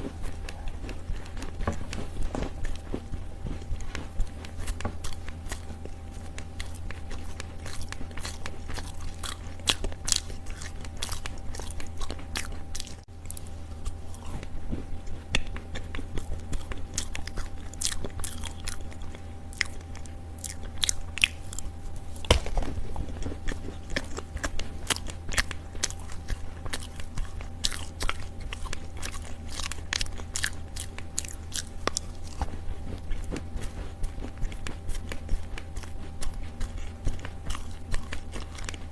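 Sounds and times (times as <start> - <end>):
dry clay being chewed: 0.0 - 38.9
steady low hum: 0.0 - 38.9.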